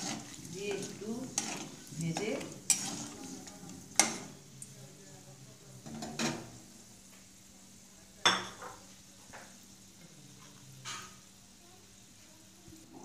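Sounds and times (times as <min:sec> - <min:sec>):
spices sizzling in oil: 0:00.0 - 0:13.0.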